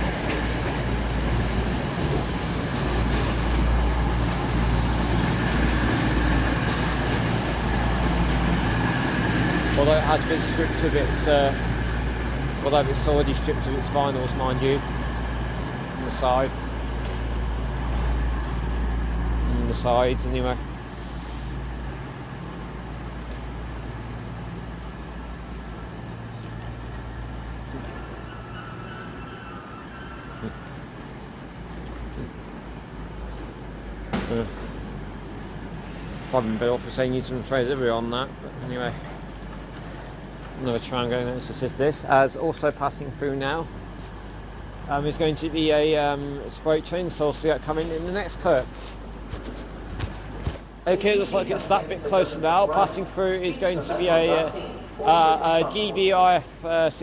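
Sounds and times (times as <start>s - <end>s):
diesel train rumbling: 0.0s - 57.0s.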